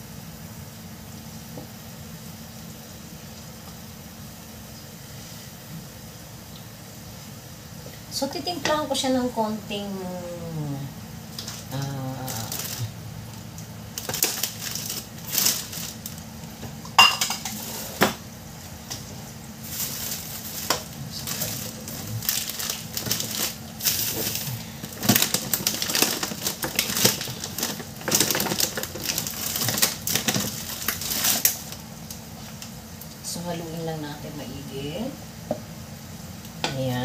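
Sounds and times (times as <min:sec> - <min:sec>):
garlic frying in oil: 0:00.0 - 0:37.0.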